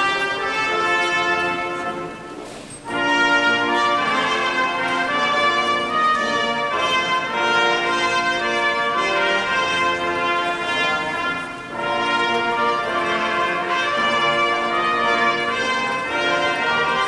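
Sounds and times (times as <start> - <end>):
brass playing held chords: 0.0 - 17.0.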